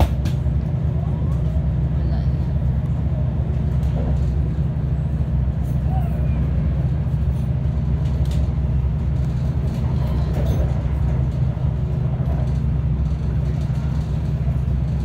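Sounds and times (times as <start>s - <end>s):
train low rumble from inside: 0.0s - 15.0s.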